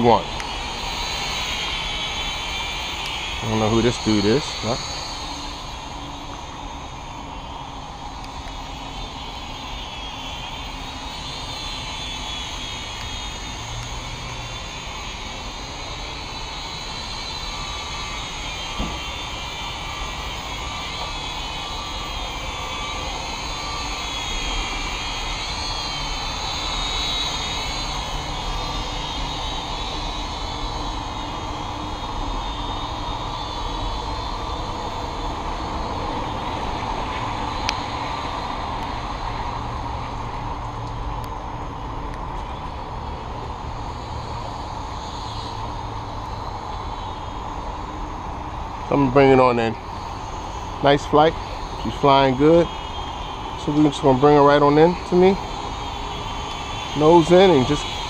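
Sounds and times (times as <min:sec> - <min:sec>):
toy drone propellers whining: 0:00.0 - 0:58.0.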